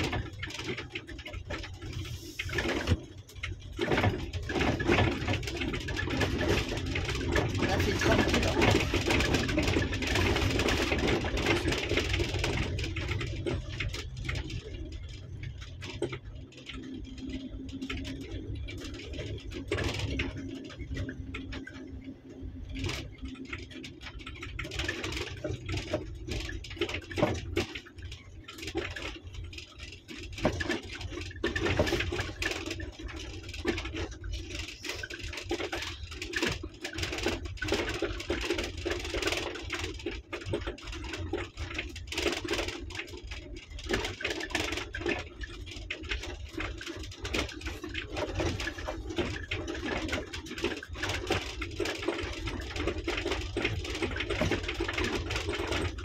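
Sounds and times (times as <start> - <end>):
car engine running: 0.0 - 56.0
small clicks and knocks: 0.0 - 56.0.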